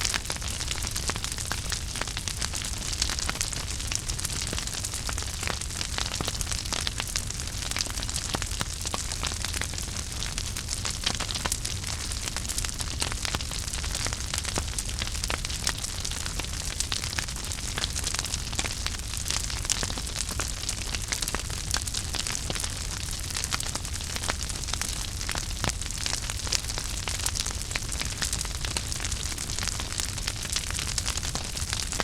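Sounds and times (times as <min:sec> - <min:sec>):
wood fire burning: 0:00.0 - 0:32.0.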